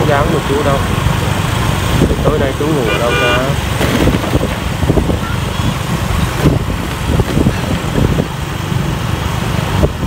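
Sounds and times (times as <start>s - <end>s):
motorbike engine and road noise: 0.0s - 10.0s.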